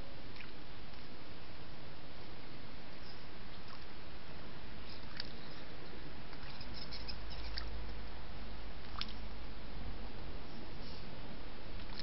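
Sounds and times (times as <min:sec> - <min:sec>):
microphone hiss: 0:00.0 - 0:12.0.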